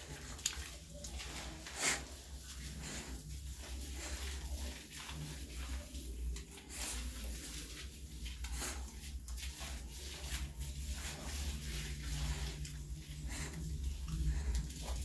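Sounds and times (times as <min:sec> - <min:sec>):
wet rubbing and splashing: 0:00.0 - 0:15.0.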